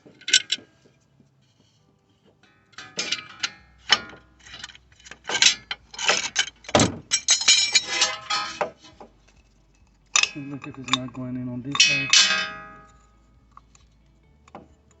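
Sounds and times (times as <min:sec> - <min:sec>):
metal clamp clinking and scraping: 0:00.0 - 0:01.0, 0:02.2 - 0:15.0.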